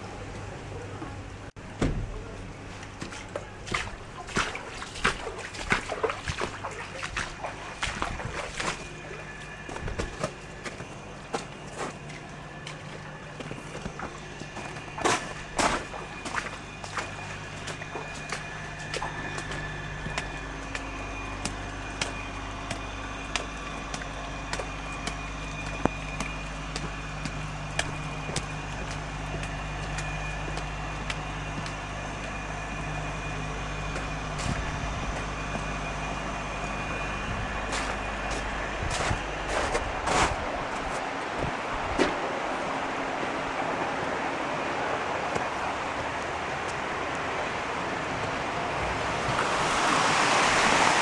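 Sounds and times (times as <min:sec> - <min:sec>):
machinery humming: 0:00.0 - 0:51.0
footsteps on wet slushy ground: 0:02.1 - 0:51.0.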